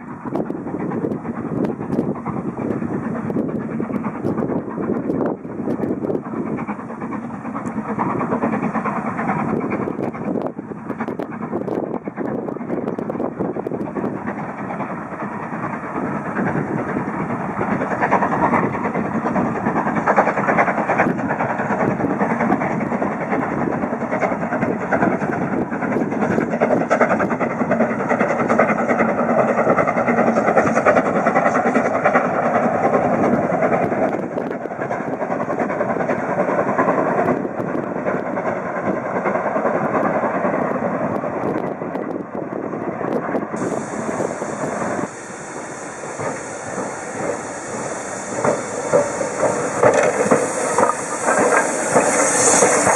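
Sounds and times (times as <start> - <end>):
steam locomotive exhaust: 0.0 - 41.6, 42.2 - 52.9
train rumble: 0.0 - 52.9.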